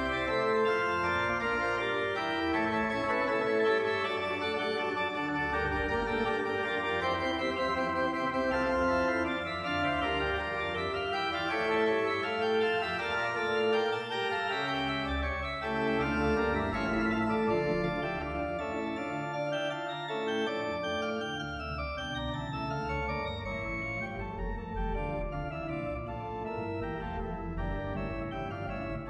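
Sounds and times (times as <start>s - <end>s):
organ chords: 0.0s - 29.0s.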